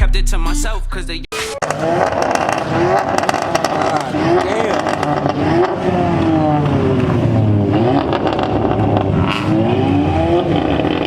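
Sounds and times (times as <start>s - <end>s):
car engine revving: 1.6s - 11.0s.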